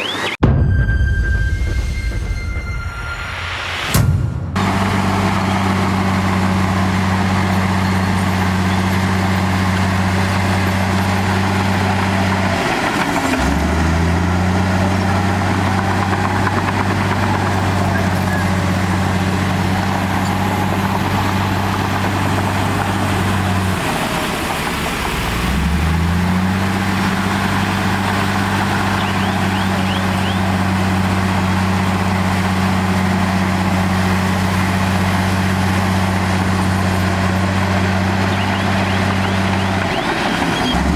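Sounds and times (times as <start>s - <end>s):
diesel engine running: 3.8s - 40.9s.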